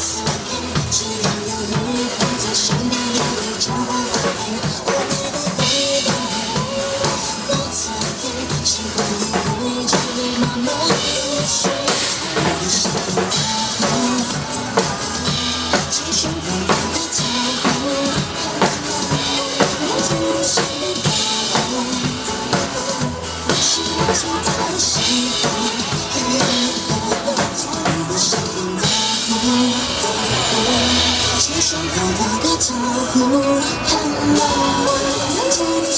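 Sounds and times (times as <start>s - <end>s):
drum kit groove: 0.0s - 35.9s
pop song backing track: 0.0s - 35.9s.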